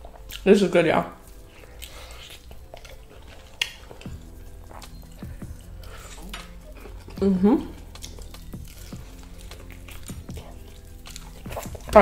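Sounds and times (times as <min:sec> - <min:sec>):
wet smacking while eating: 0:00.0 - 0:00.5, 0:01.3 - 0:12.0.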